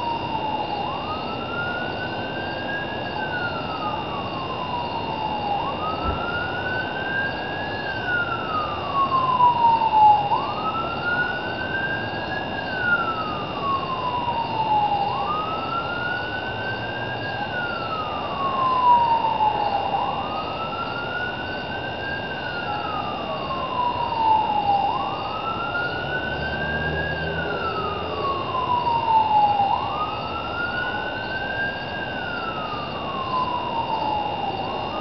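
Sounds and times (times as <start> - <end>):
siren wailing: 0.0 - 35.0.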